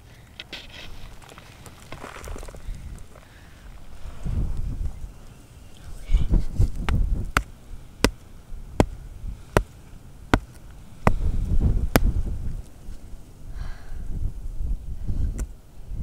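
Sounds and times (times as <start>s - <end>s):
low rumbling microphone noise: 0.0s - 16.0s.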